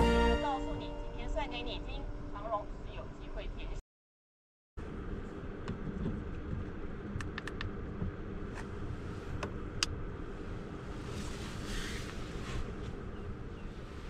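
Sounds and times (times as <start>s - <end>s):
low background rumble: 0.0s - 3.8s, 4.8s - 14.0s.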